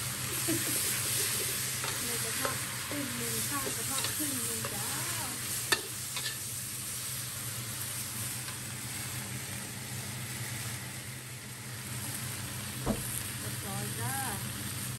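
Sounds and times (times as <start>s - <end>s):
vegetables sizzling in a wok: 0.0s - 14.9s.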